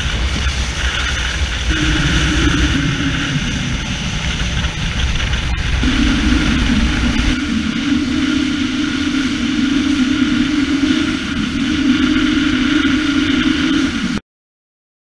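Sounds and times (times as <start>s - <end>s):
motorboat engine hum: 0.0s - 14.2s
rushing wind and water: 0.0s - 14.2s
wind buffeting microphone: 0.0s - 14.2s.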